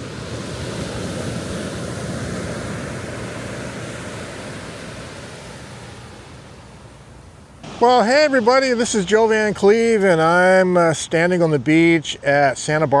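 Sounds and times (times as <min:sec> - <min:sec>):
ocean wave washing on beach: 0:00.0 - 0:11.4.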